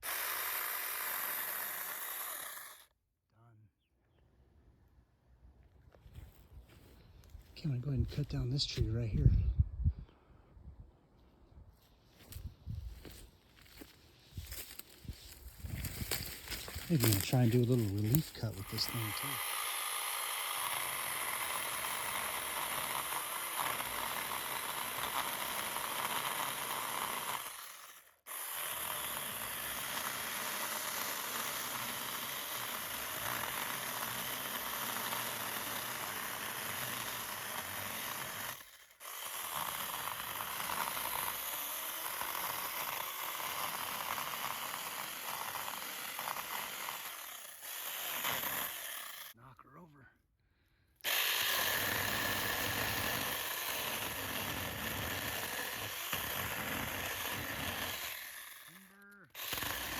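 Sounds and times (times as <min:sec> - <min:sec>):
electric chainsaw cutting wood: 0:00.0 - 0:02.9, 0:12.2 - 0:49.4, 0:51.0 - 0:59.9.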